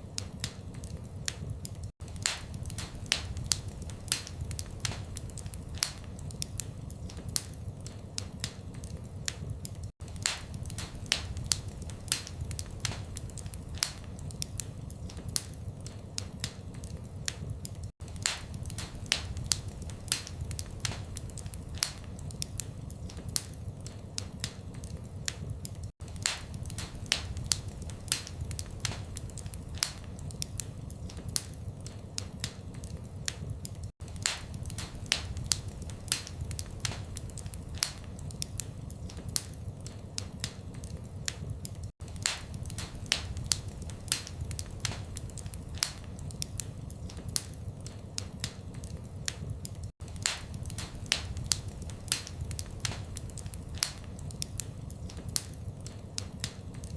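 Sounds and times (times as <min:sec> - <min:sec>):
low rumble of flames: 0:00.0 - 0:56.9
wood fire crackling: 0:00.0 - 0:56.9.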